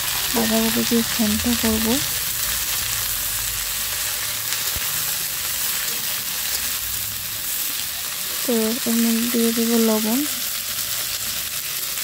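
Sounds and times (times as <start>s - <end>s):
cabbage sizzling in oil: 0.0s - 12.0s.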